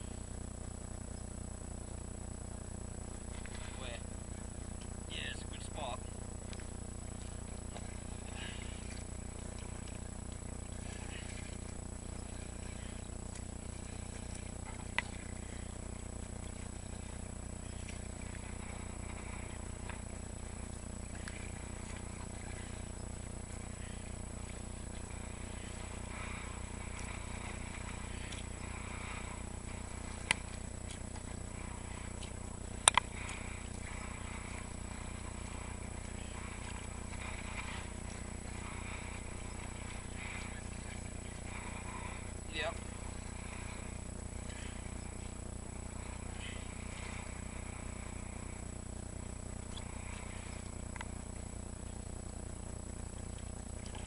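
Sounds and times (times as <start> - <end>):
camera hum and hiss: 0.0 - 54.0
thin high whine: 0.0 - 54.0.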